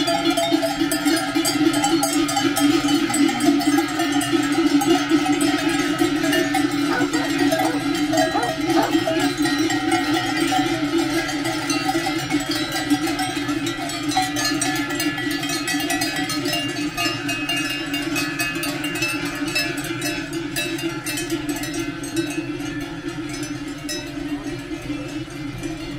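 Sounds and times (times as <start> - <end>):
cowbells clanging: 0.0 - 25.9.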